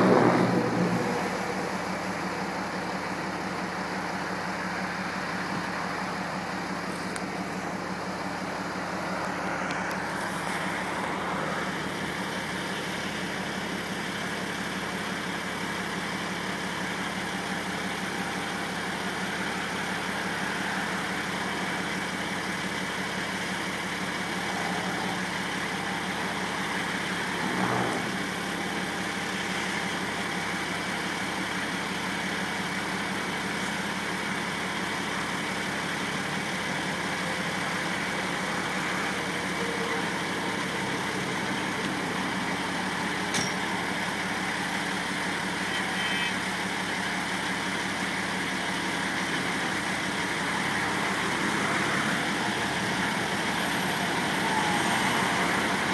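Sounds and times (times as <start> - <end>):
heavy vehicle engines idling: 0.0 - 55.9.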